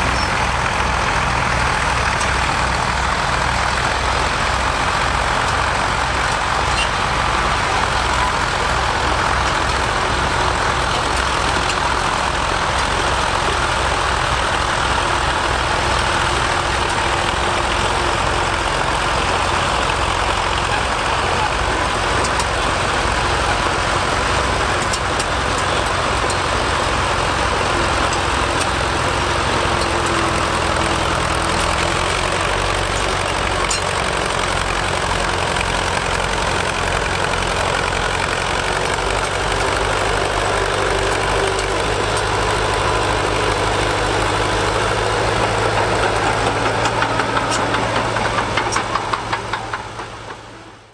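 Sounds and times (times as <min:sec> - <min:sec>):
bulldozer engine running: 0:00.0 - 0:50.9
blade pushing soil: 0:04.2 - 0:50.2.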